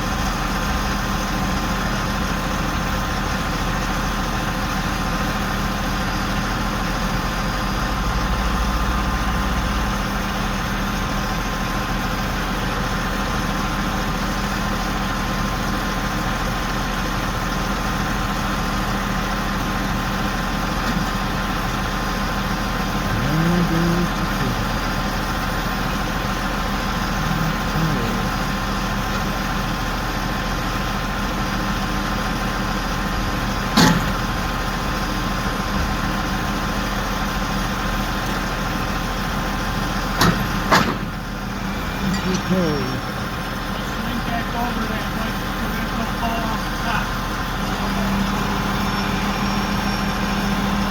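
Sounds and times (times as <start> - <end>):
crane engine running: 0.0 - 50.9.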